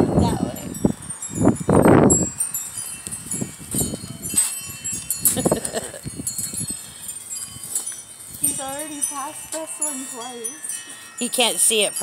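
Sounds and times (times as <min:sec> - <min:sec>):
wind chimes ringing: 0:00.0 - 0:12.0.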